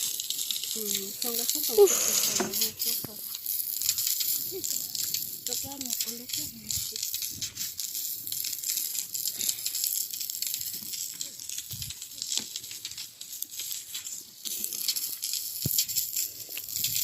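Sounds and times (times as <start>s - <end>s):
dough deep-frying in hot oil: 0.0s - 17.0s.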